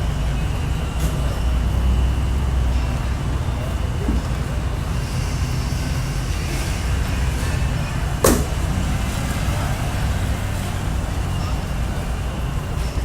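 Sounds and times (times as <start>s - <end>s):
motor vehicles rumbling: 0.0s - 13.0s.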